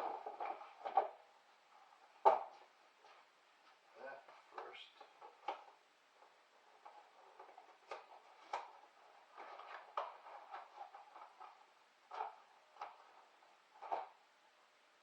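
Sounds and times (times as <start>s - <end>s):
faint clicks and knocks: 0.0s - 14.3s
low hiss: 0.0s - 15.0s.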